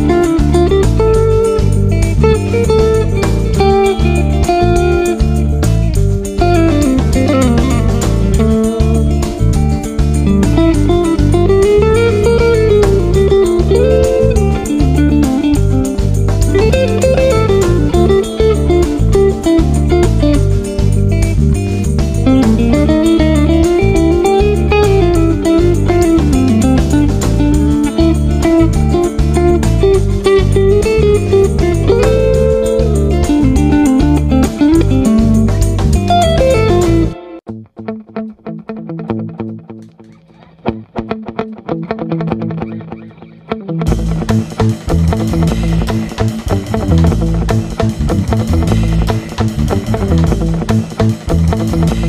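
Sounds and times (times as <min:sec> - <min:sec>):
bass line: 0:00.0 - 0:37.6, 0:43.8 - 0:52.0
electric guitar melody: 0:00.0 - 0:52.0.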